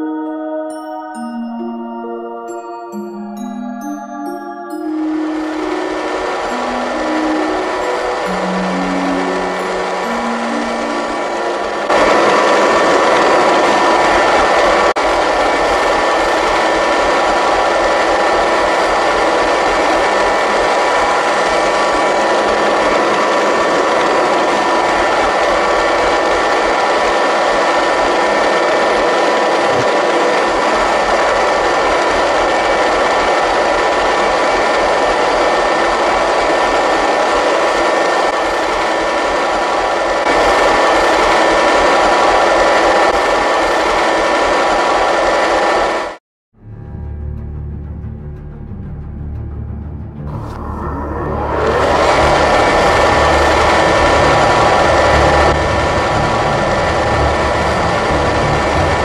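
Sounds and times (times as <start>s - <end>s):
robot vacuum cleaner whirring: 5.3s - 46.2s, 50.4s - 59.0s.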